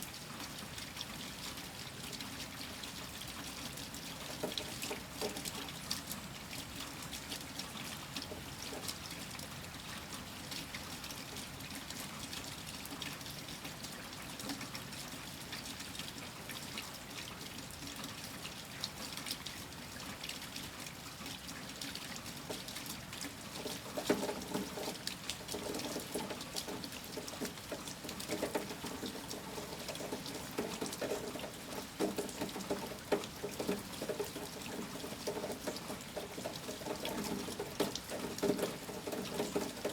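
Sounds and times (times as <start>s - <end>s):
irregular dripping and splashing: 0.0s - 39.9s
steady rain: 0.0s - 39.9s
trickle of running water: 0.0s - 39.9s.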